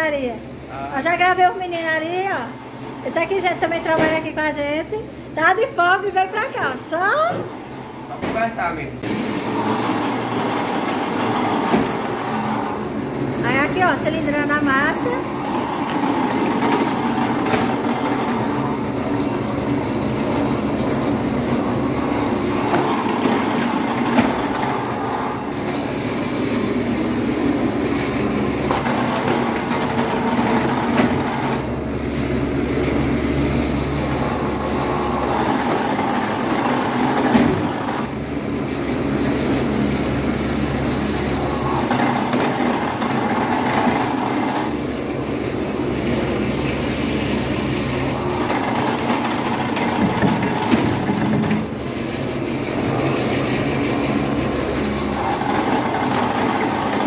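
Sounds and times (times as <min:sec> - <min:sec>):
dough sheeter motor humming: 0:00.0 - 0:57.0.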